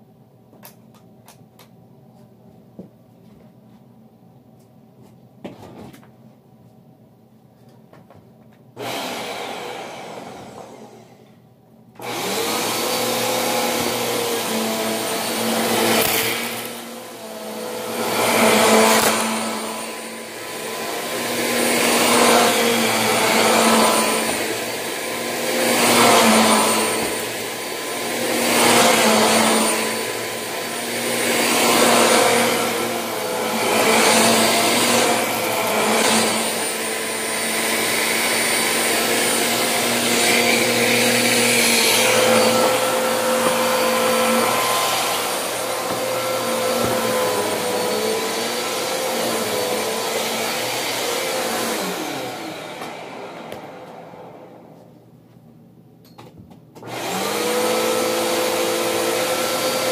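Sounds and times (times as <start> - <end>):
vacuum cleaner on carpet: 8.8 - 11.3, 12.0 - 54.9, 56.8 - 59.9.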